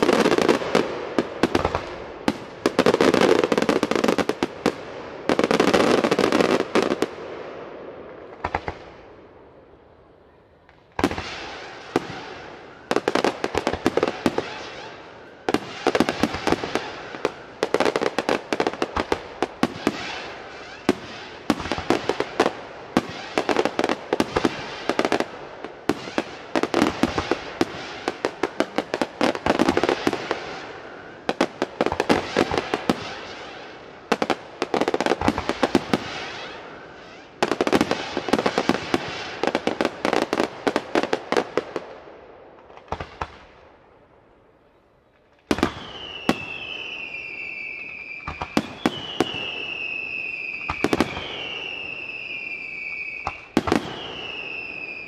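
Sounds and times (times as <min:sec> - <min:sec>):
fireworks crackling: 0:00.0 - 0:09.8, 0:10.6 - 0:43.9, 0:44.6 - 0:55.0.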